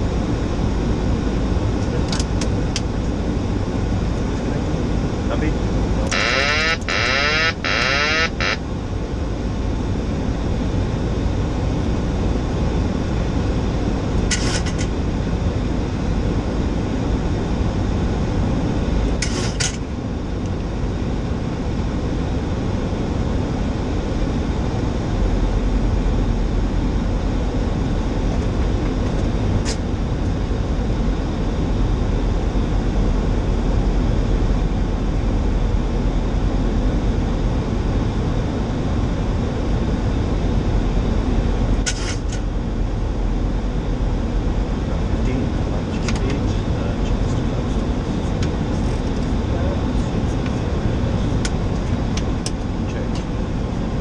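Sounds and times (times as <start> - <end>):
aircraft cockpit drone: 0.0 - 54.0.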